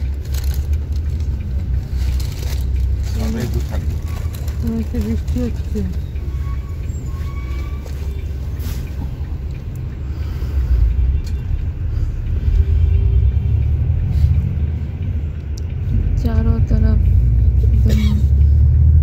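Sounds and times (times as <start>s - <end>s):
bus engine rumble inside cabin: 0.0s - 19.0s.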